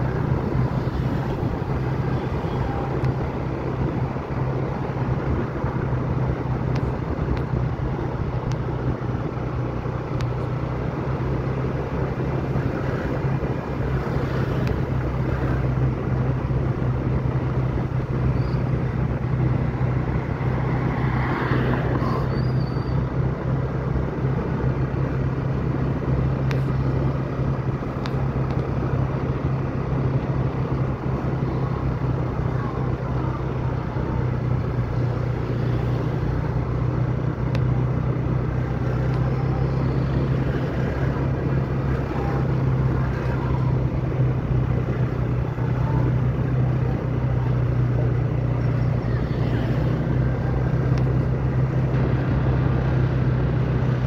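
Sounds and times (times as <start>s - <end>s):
vehicle engine drone: 0.0s - 54.0s.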